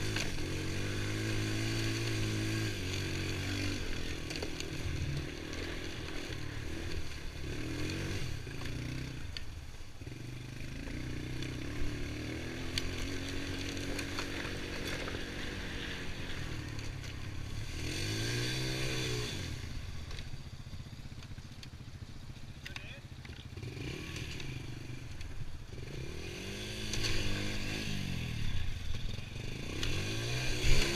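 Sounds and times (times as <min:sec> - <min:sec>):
atv engine revving: 0:00.0 - 0:30.9.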